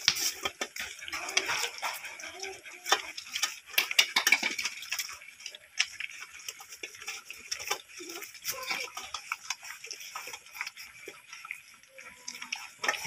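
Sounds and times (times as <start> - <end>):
puppies eating from metal bowl: 0.0 - 13.0.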